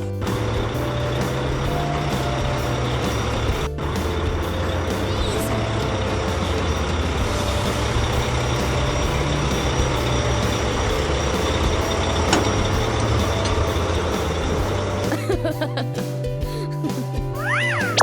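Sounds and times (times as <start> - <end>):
cartoon truck engine drone: 0.0 - 15.8, 17.4 - 18.0.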